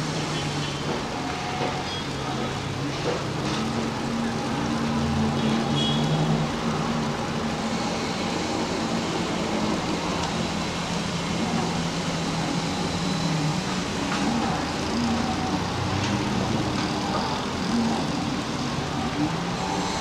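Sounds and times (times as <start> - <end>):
motor vehicles humming: 0.0 - 20.0
road noise: 0.0 - 20.0.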